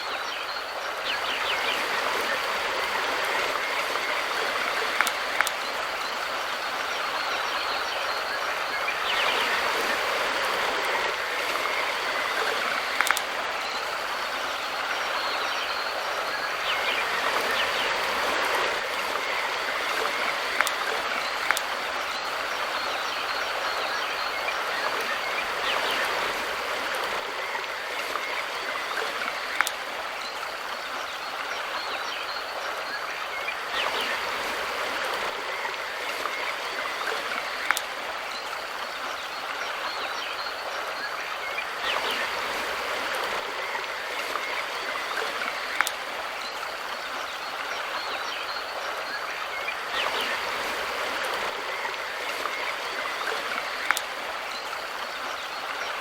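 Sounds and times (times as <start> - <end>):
river water rushing: 0.0 - 56.0
sharp clicks from water: 0.0 - 56.0.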